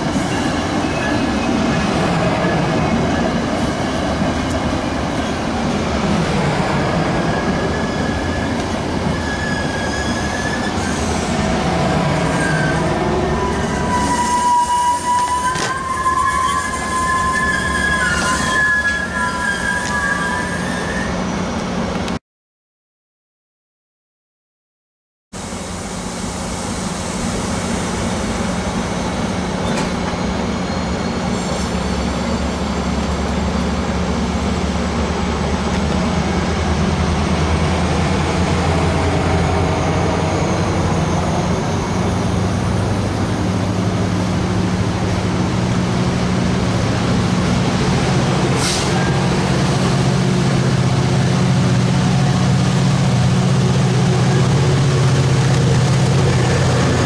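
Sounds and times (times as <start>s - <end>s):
diesel locomotive engine drone: 0.0s - 22.2s, 25.4s - 57.0s
train coaches rolling past: 0.0s - 22.2s, 25.4s - 57.0s.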